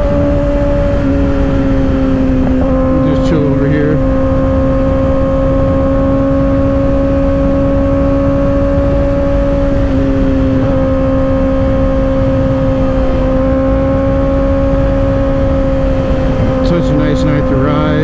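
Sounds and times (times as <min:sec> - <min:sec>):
motorcycle engine cruising: 0:00.0 - 0:18.0
wind rush: 0:00.0 - 0:18.0.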